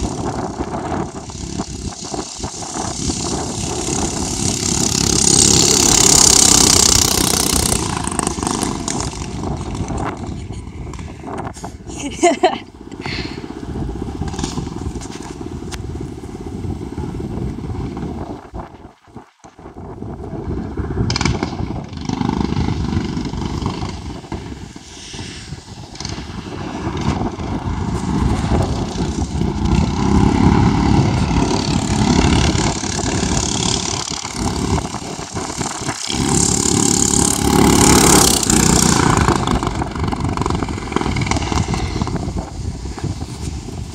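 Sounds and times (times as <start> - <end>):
mini bike engine running: 0.0 - 18.4, 19.8 - 25.3, 25.9 - 43.9.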